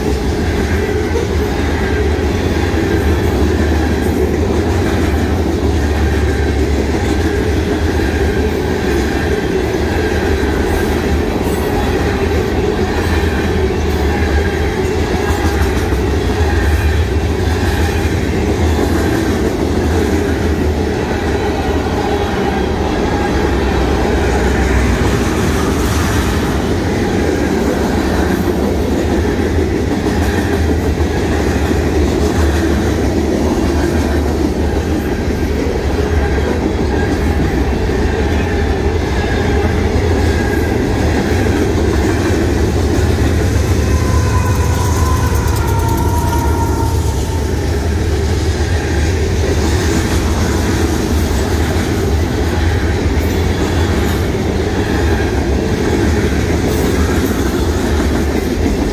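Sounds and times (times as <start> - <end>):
freight train wheels rumbling on rails: 0.0 - 58.9
rhythmic clickety-clack of rail joints: 0.0 - 58.9.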